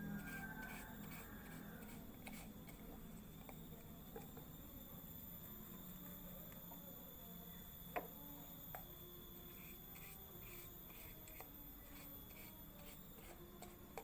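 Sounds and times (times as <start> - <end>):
soft paintbrush strokes: 0.0 - 14.0.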